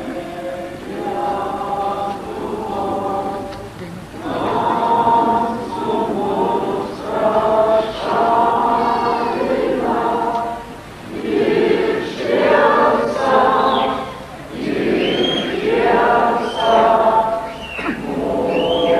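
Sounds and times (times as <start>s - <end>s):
choir singing: 0.0s - 18.9s.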